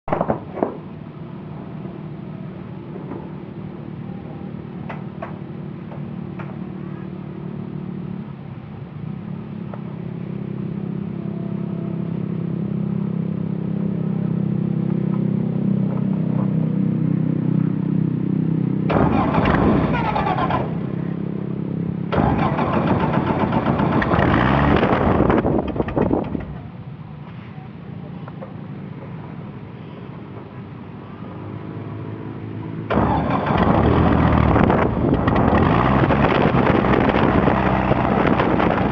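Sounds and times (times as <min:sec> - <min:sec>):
aircraft engine and propeller: 0:00.1 - 0:38.9.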